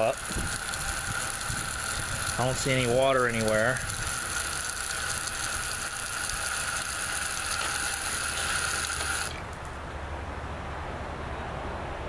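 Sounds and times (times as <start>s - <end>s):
fill valve hissing water: 0.0s - 9.7s.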